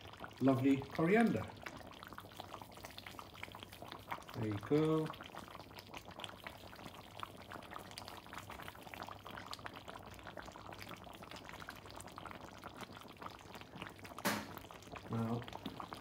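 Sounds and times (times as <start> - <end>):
sauce simmering with small pops: 0.0 - 16.0.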